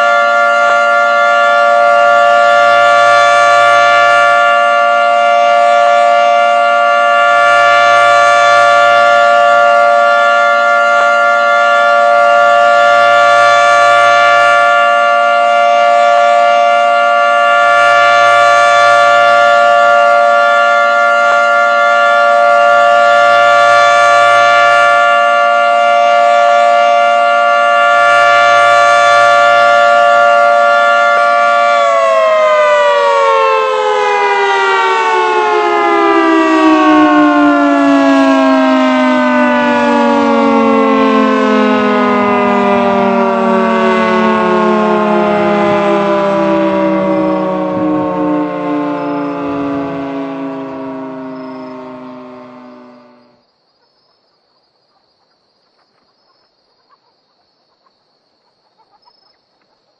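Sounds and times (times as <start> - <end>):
warning siren winding down: 0.0 - 53.4.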